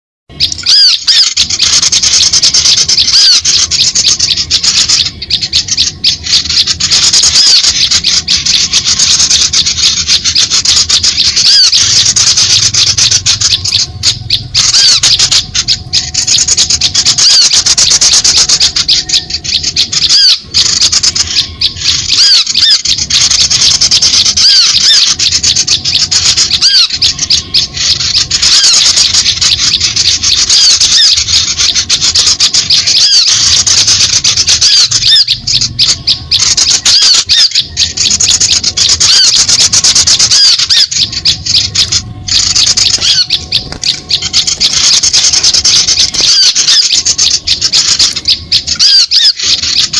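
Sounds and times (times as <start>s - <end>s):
songbirds chirping: 0.3s - 49.9s.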